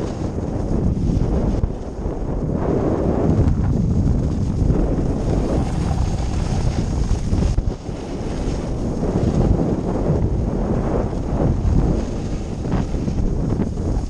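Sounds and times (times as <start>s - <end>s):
snowboard scraping packed snow: 0.0s - 14.0s
wind buffeting microphone: 0.0s - 14.0s.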